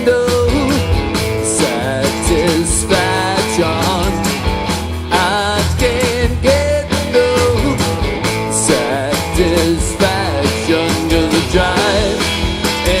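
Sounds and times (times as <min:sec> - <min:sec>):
country music guitar and beat: 0:00.0 - 0:13.0.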